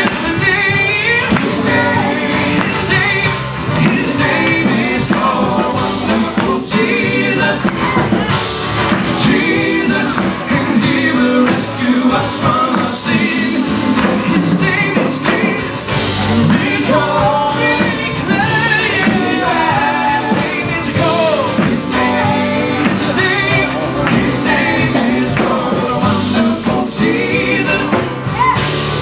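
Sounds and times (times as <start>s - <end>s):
backing singers: 0.0s - 29.0s
gospel band playing: 0.0s - 29.0s
guitar: 0.0s - 29.0s
person singing lead vocal: 0.0s - 29.0s.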